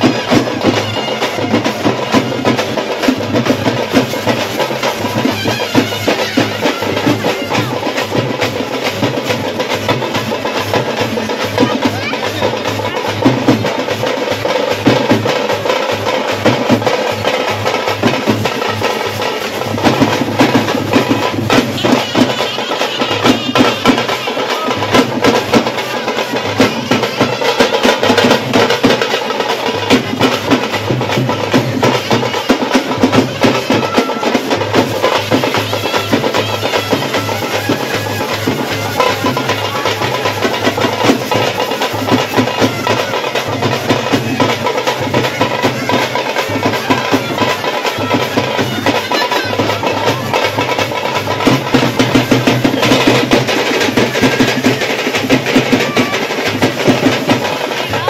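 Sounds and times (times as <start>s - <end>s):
drummers beating fast rhythm: 0.0s - 58.0s.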